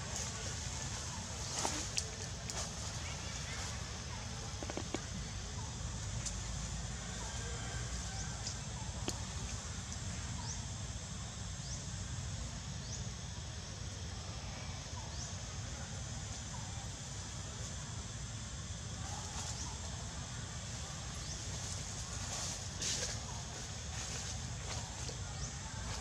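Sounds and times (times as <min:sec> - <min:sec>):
steady hiss and low rumble: 0:00.0 - 0:26.0.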